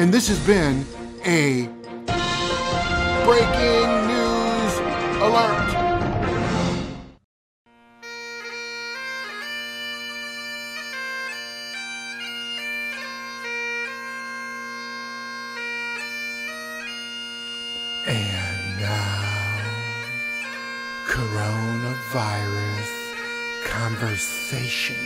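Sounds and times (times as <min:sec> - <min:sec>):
bagpipe music: 0:00.2 - 0:05.9, 0:07.7 - 0:25.0.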